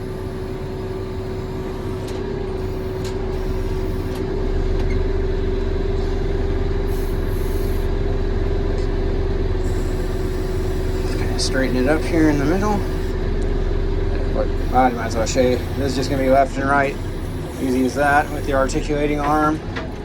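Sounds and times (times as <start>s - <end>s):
diesel engine and hydraulics whining: 0.0s - 20.0s.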